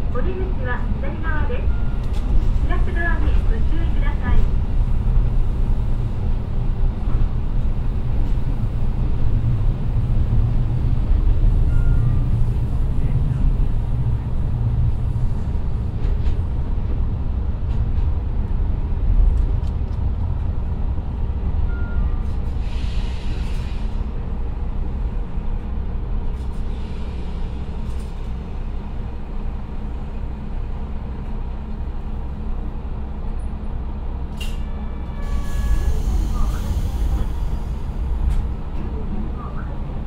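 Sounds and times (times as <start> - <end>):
diesel railcar rumbling: 0.0 - 40.0.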